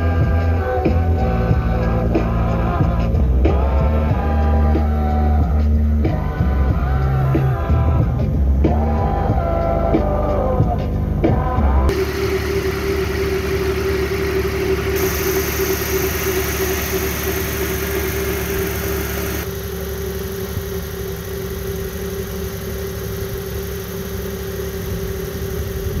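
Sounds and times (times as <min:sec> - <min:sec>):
pickup engine idling: 0:00.0 - 0:26.0.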